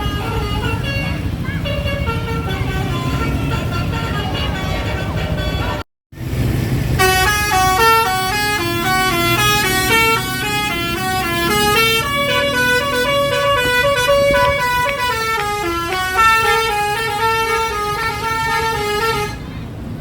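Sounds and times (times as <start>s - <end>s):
musical air horns melody: 0.0s - 5.8s, 7.0s - 19.4s.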